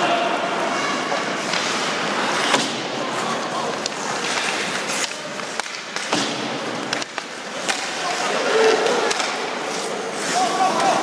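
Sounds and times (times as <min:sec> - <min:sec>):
hockey sticks and puck clacking: 0:00.5 - 0:11.0
skates scraping on ice: 0:00.5 - 0:11.0.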